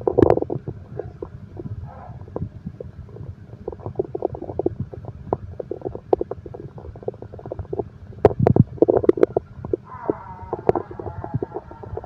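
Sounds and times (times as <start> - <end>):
stomach growling: 0.0 - 12.0.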